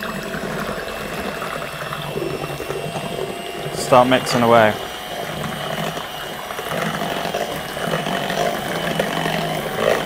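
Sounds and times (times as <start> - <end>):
electric hand mixer whisking: 0.0 - 10.0.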